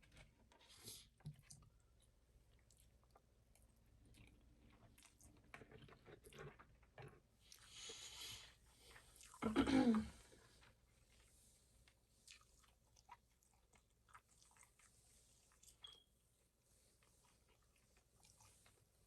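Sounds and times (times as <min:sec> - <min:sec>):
person chewing food: 0:00.0 - 0:07.8, 0:08.4 - 0:09.4, 0:10.3 - 0:19.0.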